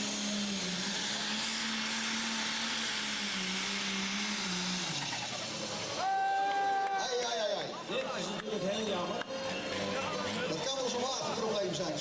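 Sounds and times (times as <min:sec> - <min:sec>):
diesel truck engine at high revs: 0:00.0 - 0:12.0.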